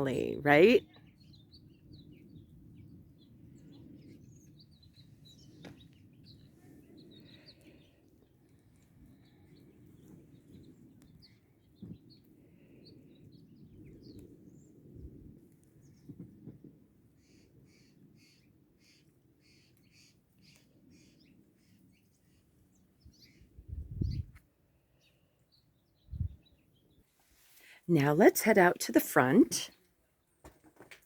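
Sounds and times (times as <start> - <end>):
outdoor hush: 0.0 - 31.0
small birds chirping: 0.1 - 16.5, 17.2 - 27.8.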